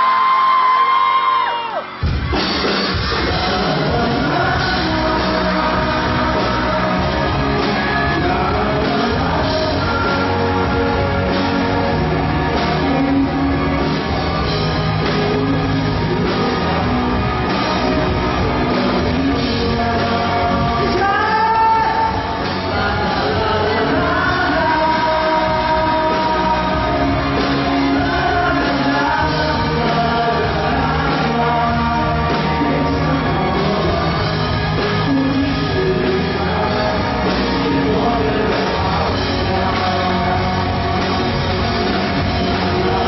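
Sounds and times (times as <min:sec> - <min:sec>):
live pop-rock band: 0:00.0 - 0:43.0
person singing: 0:03.0 - 0:43.0.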